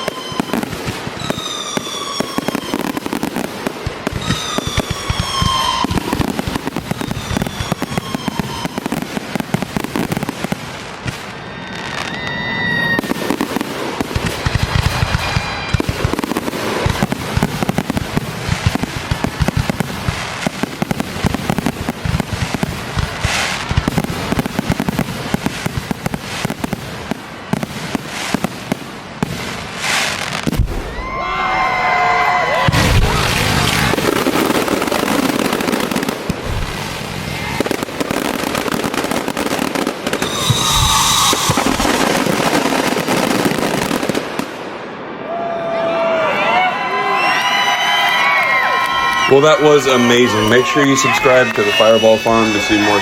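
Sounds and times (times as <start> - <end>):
firework whistles: 0.0 - 26.8, 29.2 - 44.1, 47.0 - 53.0
fireworks bangs and crackling: 0.0 - 53.0.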